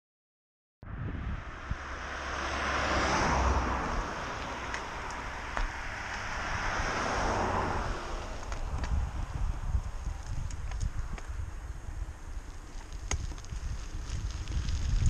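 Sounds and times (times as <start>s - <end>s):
wind rumbling on microphone: 0.8s - 15.0s
bike tyres rolling on gravel: 1.9s - 15.0s.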